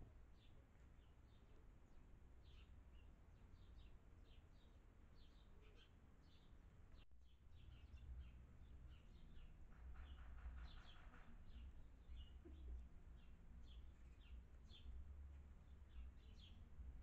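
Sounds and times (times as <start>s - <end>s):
small songbirds chirping: 0.1s - 17.0s.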